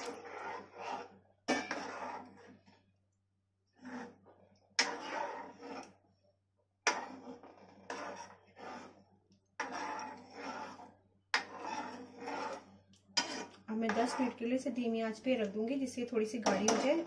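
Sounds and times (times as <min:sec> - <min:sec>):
ladle scraping a metal pan: 0:00.0 - 0:02.8, 0:03.8 - 0:06.0, 0:06.8 - 0:15.0, 0:16.2 - 0:17.0.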